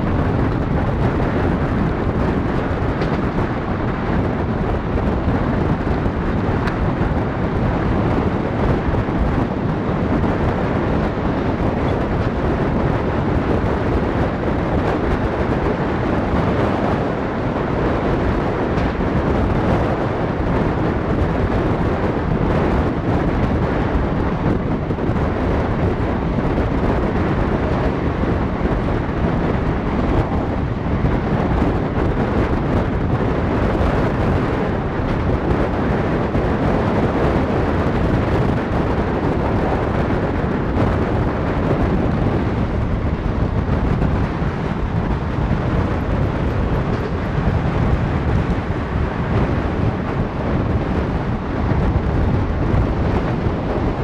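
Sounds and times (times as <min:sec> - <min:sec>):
train wheel and rail noise: 0:00.0 - 0:54.0
wind on microphone: 0:00.0 - 0:54.0.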